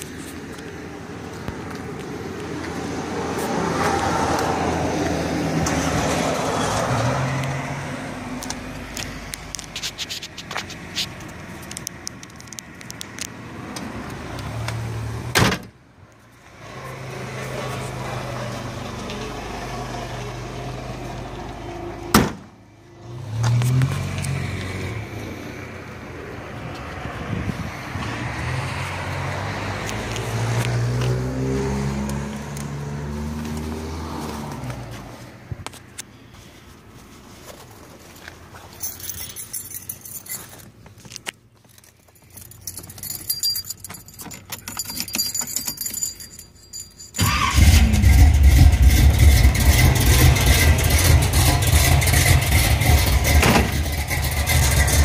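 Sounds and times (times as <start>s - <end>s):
vehicle engine humming: 0.0s - 55.0s.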